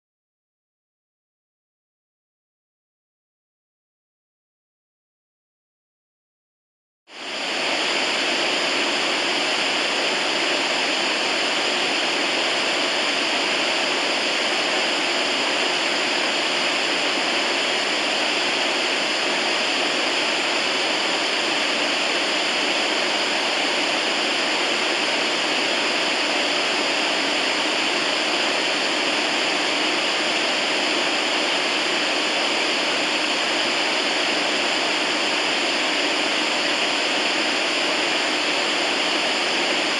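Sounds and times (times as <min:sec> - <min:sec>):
radio static hiss: 0:07.1 - 0:39.9.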